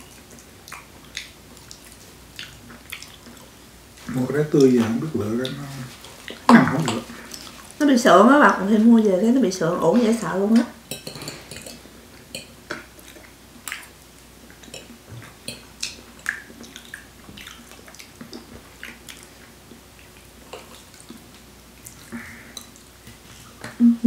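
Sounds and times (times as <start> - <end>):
wet chewing: 0.0 - 7.8, 11.0 - 23.6.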